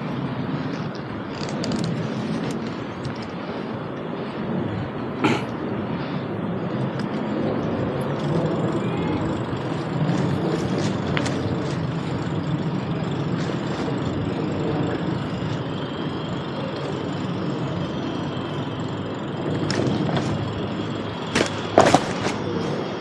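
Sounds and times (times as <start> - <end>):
city street traffic: 0.0 - 23.0.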